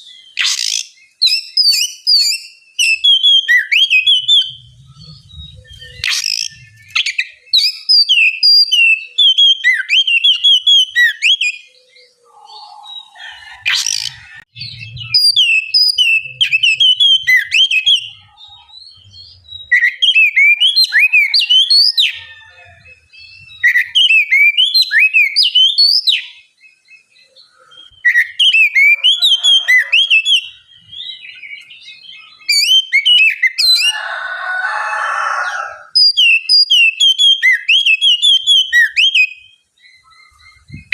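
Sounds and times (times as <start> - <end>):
bird singing whistled notes: 0.0 - 33.9, 35.9 - 40.9.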